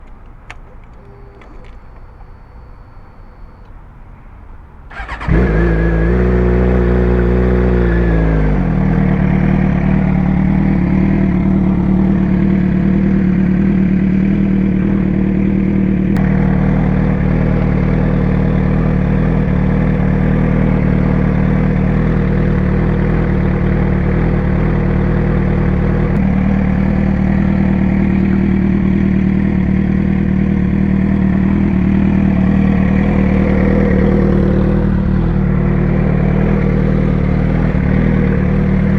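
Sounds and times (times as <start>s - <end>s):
motorcycle engine starting and idling: 0.0s - 38.9s.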